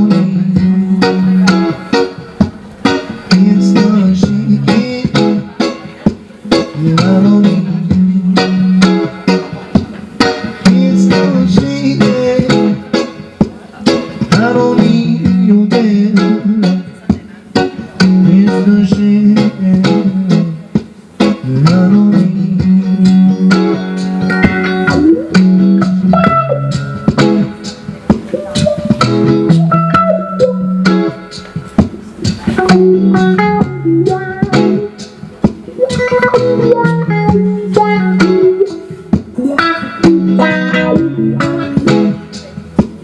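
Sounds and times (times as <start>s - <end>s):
bass guitar line: 0.0s - 43.0s
plucked guitar: 0.0s - 43.0s.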